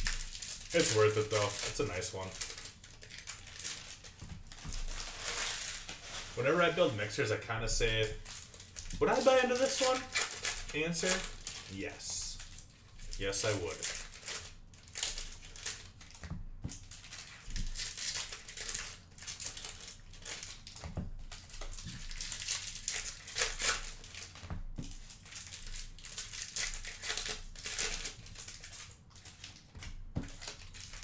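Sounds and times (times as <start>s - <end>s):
cards rustling and sliding: 0.0s - 31.0s
foil wrappers crinkling and tearing: 0.0s - 31.0s.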